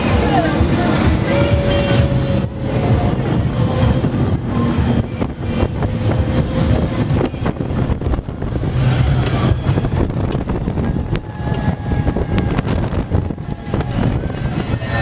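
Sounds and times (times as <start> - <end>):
roller coaster wheels rumbling: 0.0 - 15.0
wind buffeting microphone: 0.0 - 15.0.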